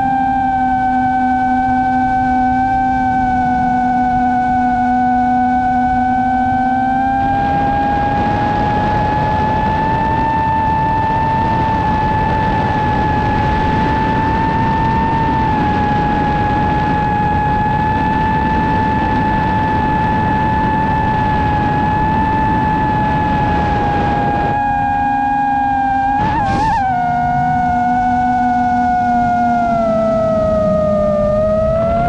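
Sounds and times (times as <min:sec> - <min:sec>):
drone motors whining: 0:00.0 - 0:32.0
wind noise: 0:00.0 - 0:32.0.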